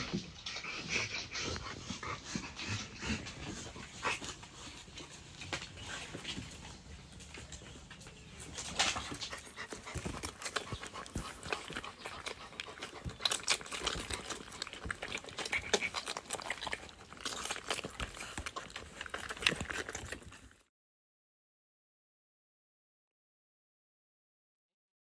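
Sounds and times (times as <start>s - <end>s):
dog panting: 0.0s - 20.3s
puppies clicking and smacking: 0.0s - 20.7s.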